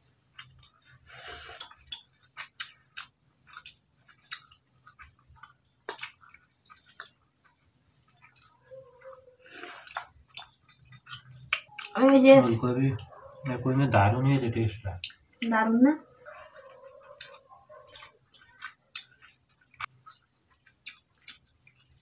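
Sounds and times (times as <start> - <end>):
people chewing: 0.0 - 22.0.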